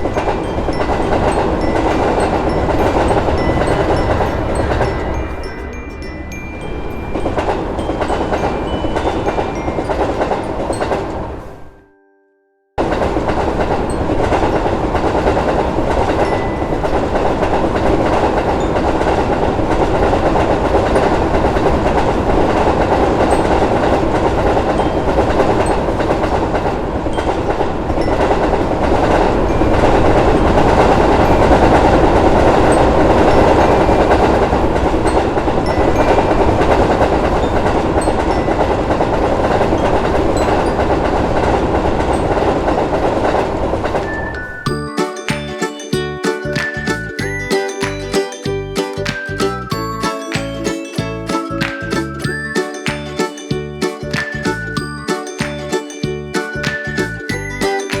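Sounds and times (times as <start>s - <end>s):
train rumbling: 0.0s - 11.7s, 12.8s - 58.0s.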